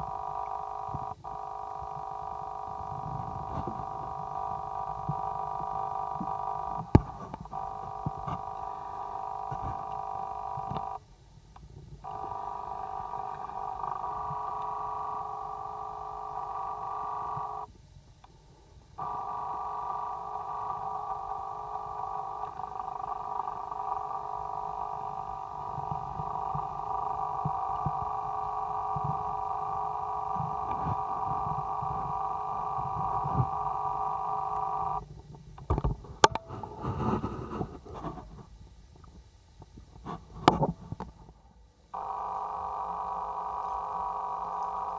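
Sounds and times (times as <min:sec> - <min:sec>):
hum of held tones: 0:00.0 - 0:44.9.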